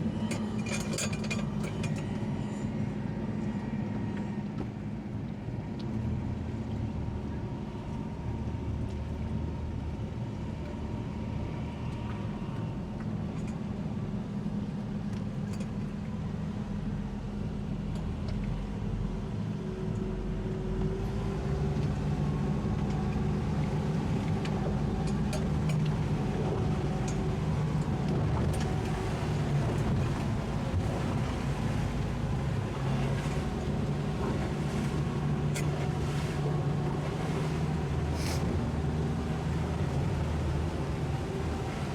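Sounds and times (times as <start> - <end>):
outboard engines running: 0.0 - 41.9.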